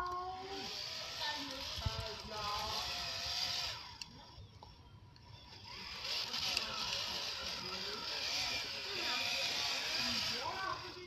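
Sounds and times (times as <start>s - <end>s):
electric motor and gearbox whining: 0.0s - 11.0s.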